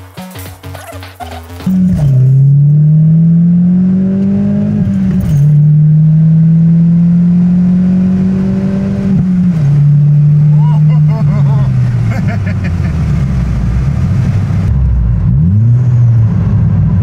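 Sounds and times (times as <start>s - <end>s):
car engine accelerating through gears: 1.0s - 17.0s.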